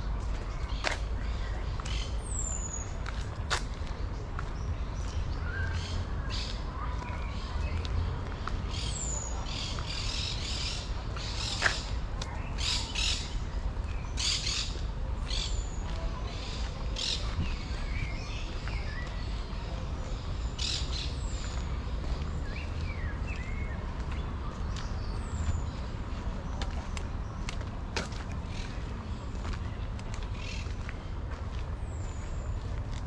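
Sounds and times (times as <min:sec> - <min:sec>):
city background hum: 0:00.0 - 0:33.0.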